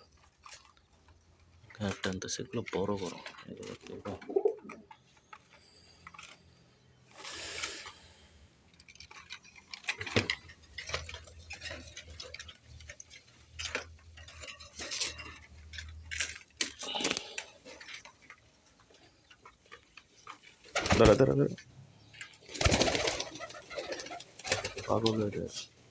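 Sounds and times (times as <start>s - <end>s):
pigeons clicking and tapping: 0.0s - 8.1s, 8.7s - 25.9s.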